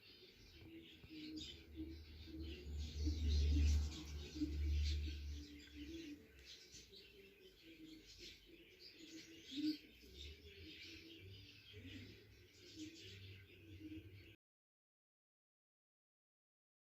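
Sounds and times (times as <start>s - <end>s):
budgerigars chirping: 0.1s - 14.3s.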